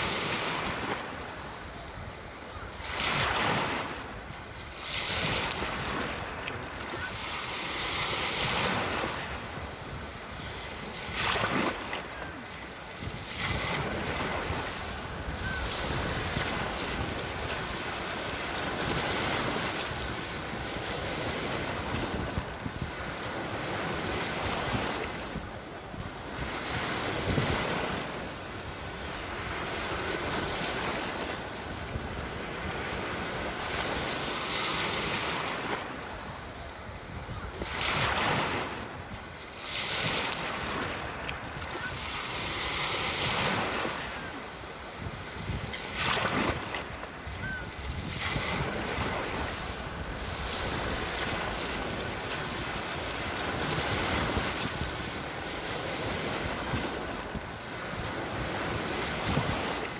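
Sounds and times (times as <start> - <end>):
sea waves breaking on shore: 0.0 - 59.9
wind noise on microphone: 0.0 - 59.9.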